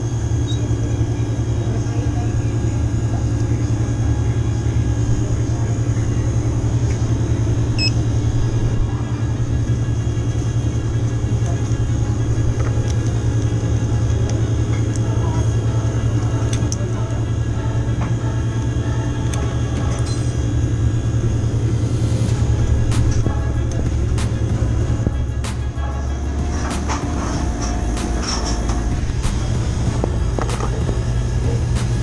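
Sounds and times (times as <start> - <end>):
low hum of machinery: 0.0 - 32.0.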